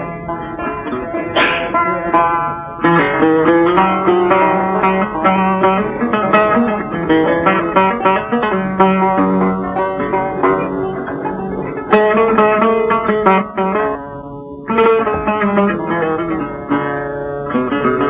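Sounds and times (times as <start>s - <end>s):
plucked string instruments: 0.0s - 18.0s.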